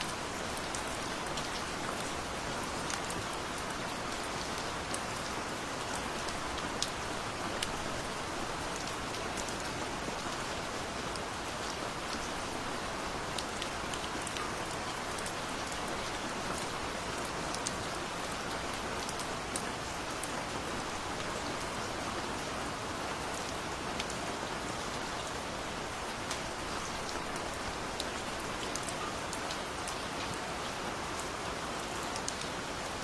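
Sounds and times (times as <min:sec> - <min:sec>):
rain falling: 0:00.0 - 0:33.0
raindrops pattering: 0:00.0 - 0:33.0.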